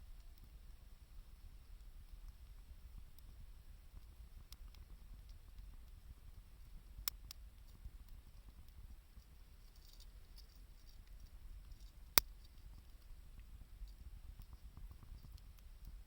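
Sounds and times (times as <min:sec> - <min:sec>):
wood fire crackling: 0:00.3 - 0:16.0.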